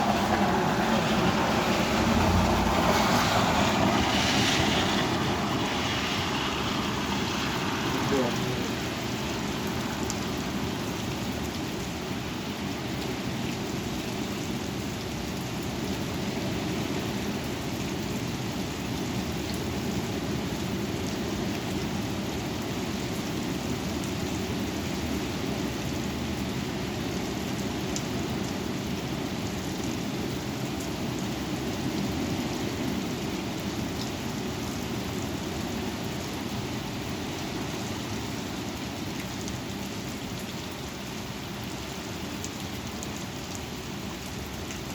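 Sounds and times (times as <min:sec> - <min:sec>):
rain: 0:00.0 - 0:44.9
raindrops ticking on a surface: 0:00.0 - 0:44.9.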